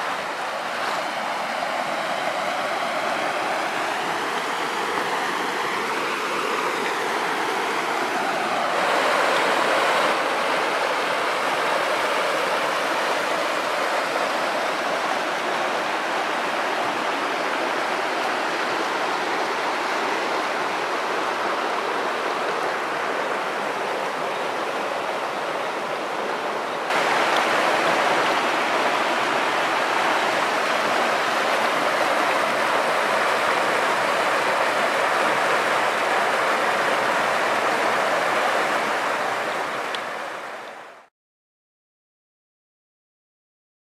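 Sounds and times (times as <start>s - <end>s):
river rushing over rocks: 0.0s - 41.1s.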